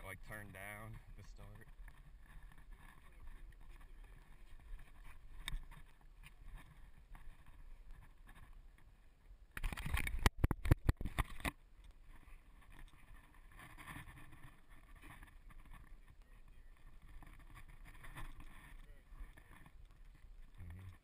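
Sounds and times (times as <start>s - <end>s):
muffled scraping against rock: 0.3s - 8.9s, 9.6s - 21.0s.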